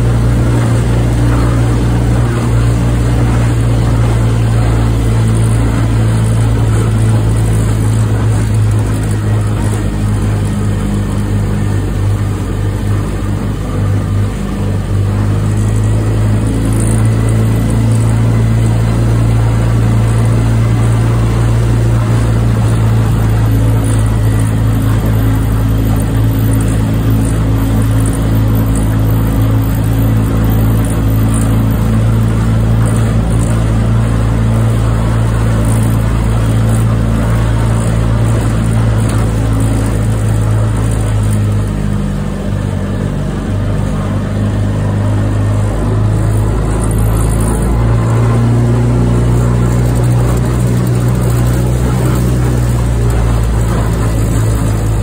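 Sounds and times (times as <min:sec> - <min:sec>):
outboard motor droning: 0:00.0 - 0:55.0.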